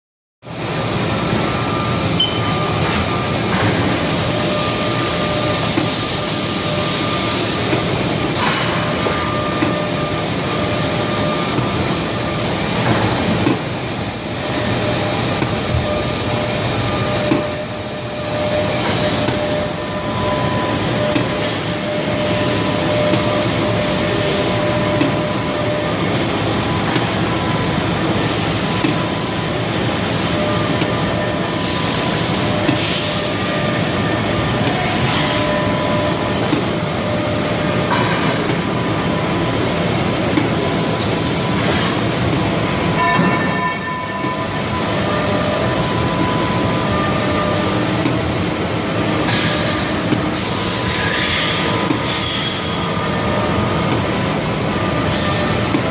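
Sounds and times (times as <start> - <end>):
lathe running with whine: 0.5 - 55.9.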